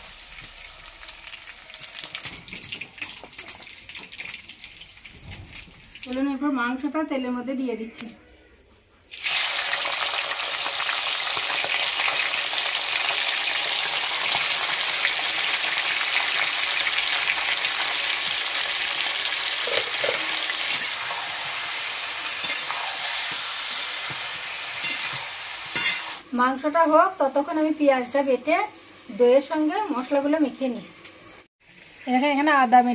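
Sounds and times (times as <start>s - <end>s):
chicken sizzling in hot oil: 0.0s - 6.8s, 9.1s - 32.9s.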